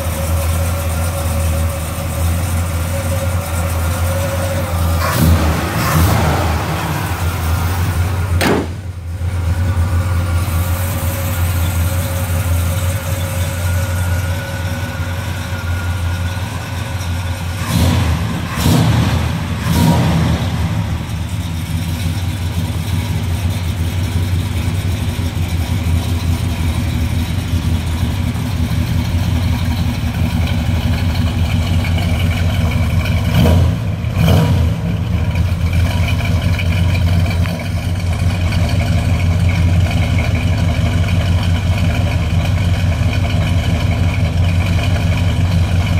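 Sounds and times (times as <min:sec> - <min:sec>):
car engine idling: 0:00.0 - 0:45.9
engine throttle blips: 0:00.0 - 0:45.9.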